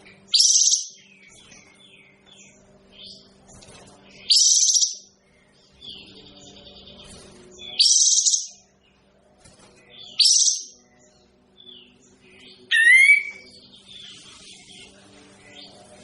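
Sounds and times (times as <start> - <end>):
harsh chattering bird calls: 0.0 - 9.1, 9.8 - 16.0
faint low hum: 0.0 - 16.0.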